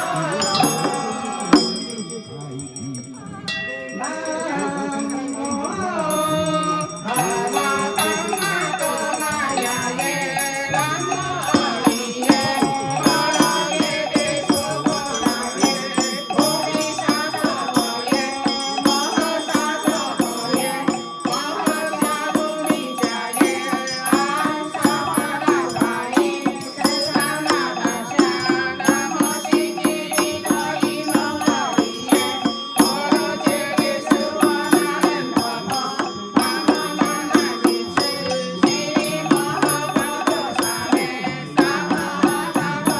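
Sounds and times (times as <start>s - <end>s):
chanting: 0.0s - 42.9s
percussion beat: 0.0s - 42.9s.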